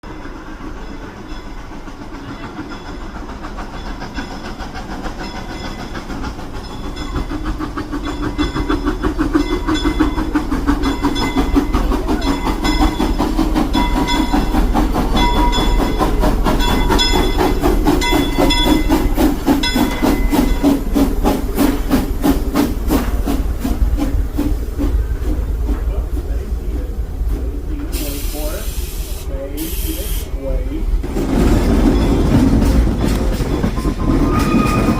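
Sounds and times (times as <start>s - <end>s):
steam locomotive exhaust beats: 0.0s - 34.9s
steam hissing: 0.1s - 34.9s.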